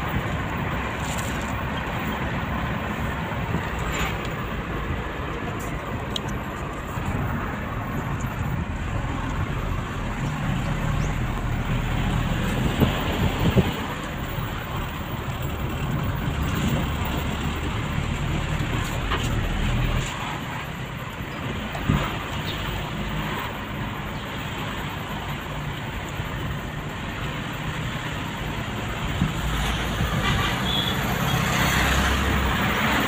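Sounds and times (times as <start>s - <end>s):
car road and engine noise: 0.0s - 33.0s.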